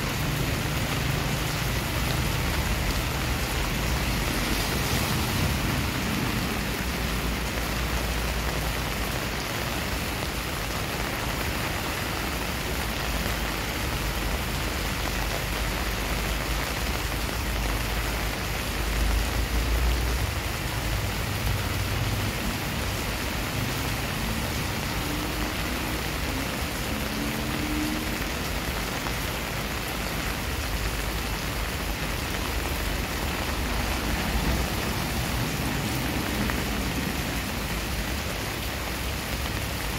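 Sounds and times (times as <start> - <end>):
rain splashing on pavement: 0.0 - 39.9.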